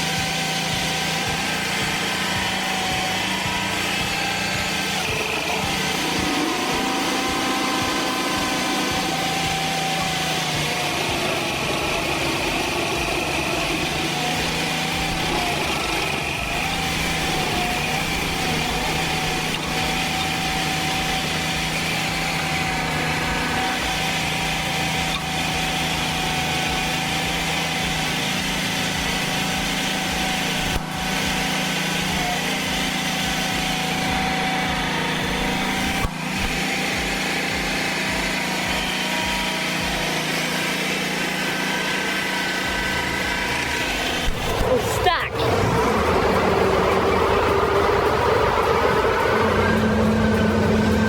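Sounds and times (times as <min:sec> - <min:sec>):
high whine: 0:00.0 - 0:51.0
stump grinder engine running: 0:00.0 - 0:51.0.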